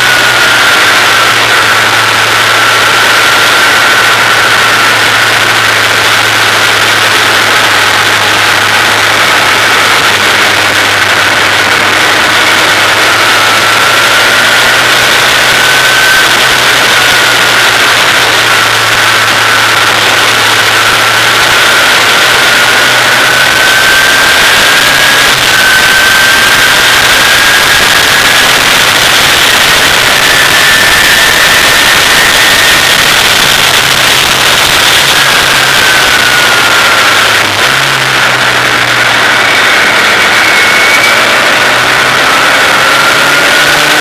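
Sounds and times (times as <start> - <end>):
race car engine at speed: 0.0 - 44.0
wind rush on microphone: 0.0 - 44.0.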